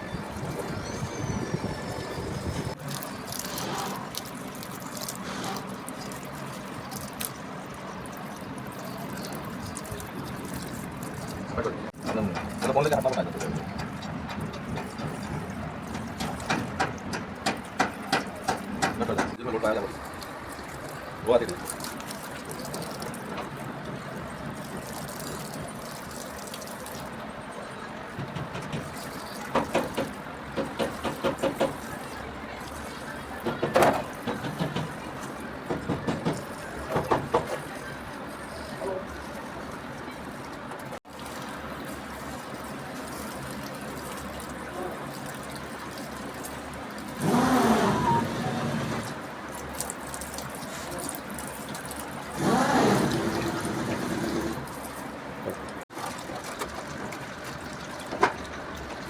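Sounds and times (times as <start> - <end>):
liquid trickling: 0.0 - 59.0
water running: 0.0 - 59.0.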